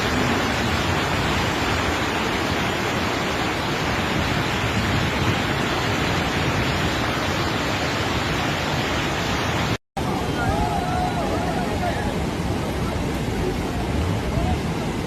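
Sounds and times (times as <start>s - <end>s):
floodwater torrent roaring: 0.0s - 15.0s.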